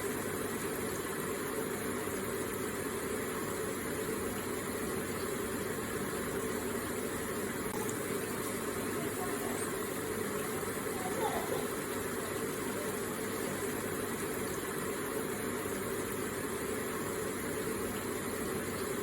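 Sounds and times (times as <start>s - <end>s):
water running steadily: 0.0s - 19.0s.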